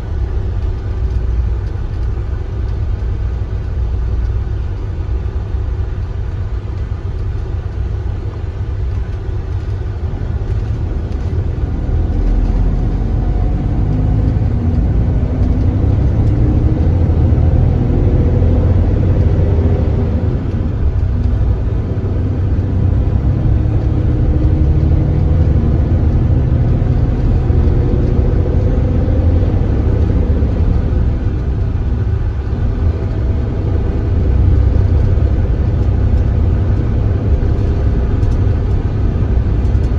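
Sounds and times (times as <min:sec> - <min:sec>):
diesel coach engine rumbling: 0:00.0 - 0:39.9.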